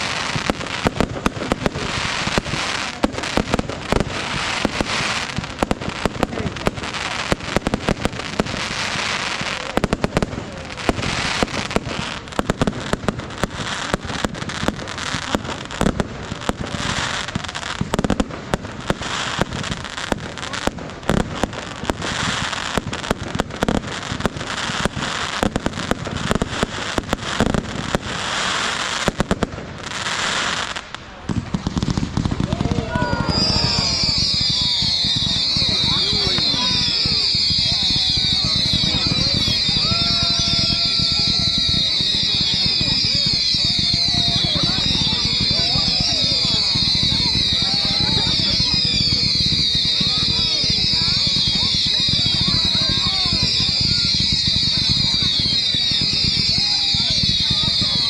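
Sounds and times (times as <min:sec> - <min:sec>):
fireworks crackling: 0:00.0 - 0:58.0
fireworks sharp bangs: 0:00.0 - 0:58.0.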